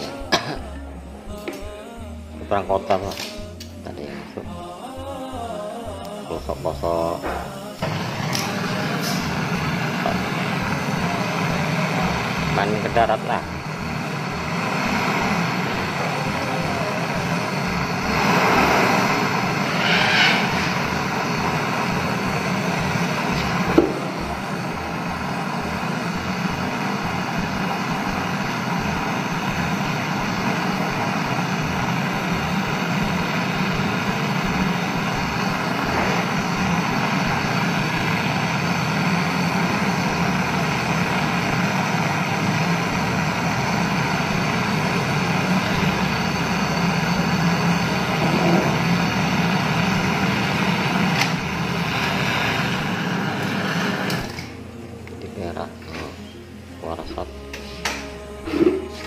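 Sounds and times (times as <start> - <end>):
motor humming: 0.0 - 59.0.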